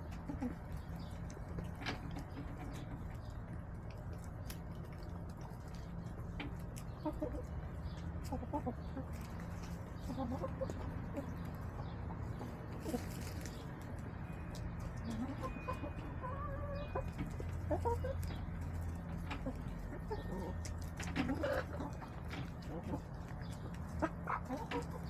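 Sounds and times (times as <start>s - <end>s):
hens clucking softly: 0.0s - 13.8s, 14.8s - 25.0s.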